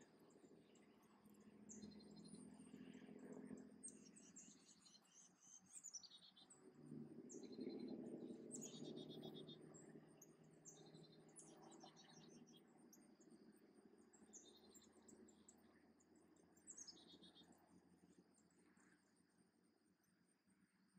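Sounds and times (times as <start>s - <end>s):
songbirds chirping and trilling: 0.0s - 19.2s.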